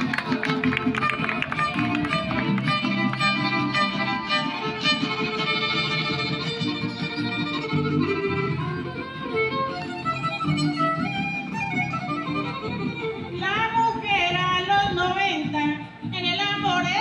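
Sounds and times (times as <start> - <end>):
strummed guitars: 0.0 - 17.0
violin melody: 0.0 - 17.0.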